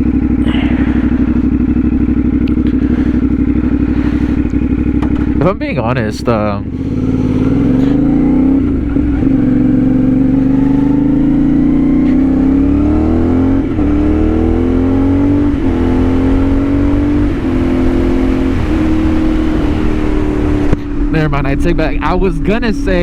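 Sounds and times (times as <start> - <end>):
motorcycle engine under power: 0.0 - 23.0
wind and road rumble: 0.0 - 23.0.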